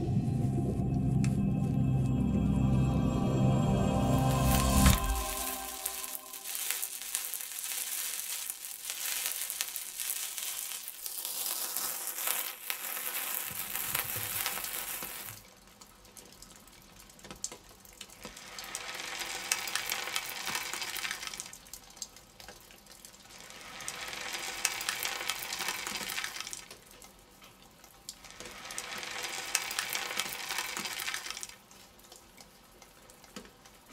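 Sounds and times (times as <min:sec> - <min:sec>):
potato slices sizzling in oil: 0:04.2 - 0:22.3, 0:23.0 - 0:33.9.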